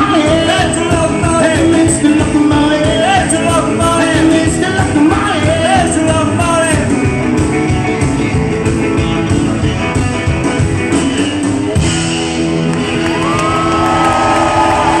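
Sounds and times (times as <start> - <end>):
rockabilly band playing loudly: 0.0 - 15.0.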